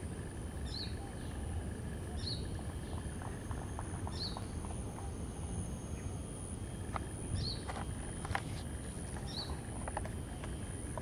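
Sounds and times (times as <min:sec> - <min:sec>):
faint high steady whine: 0:00.0 - 0:11.0
low outdoor rumble: 0:00.0 - 0:11.0.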